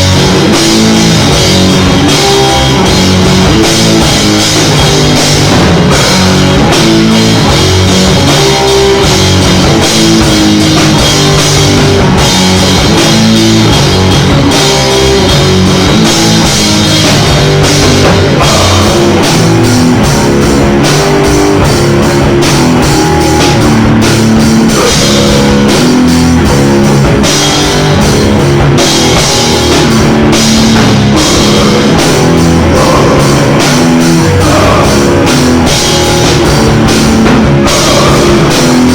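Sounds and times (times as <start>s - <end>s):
drum hits: 0.0s - 38.9s
rock band playing: 0.0s - 38.9s.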